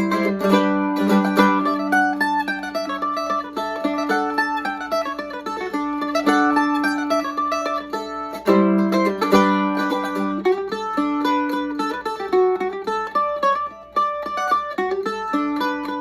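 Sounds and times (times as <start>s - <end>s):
mandolin chord ringing: 0.0s - 16.0s
mandolin picking a melody: 0.0s - 16.0s.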